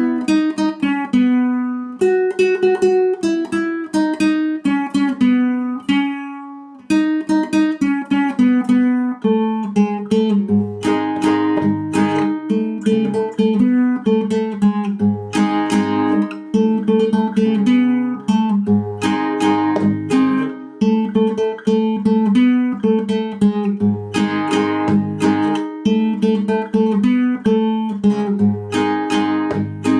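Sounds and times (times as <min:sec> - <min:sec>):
acoustic guitar melody: 0:00.0 - 0:29.9.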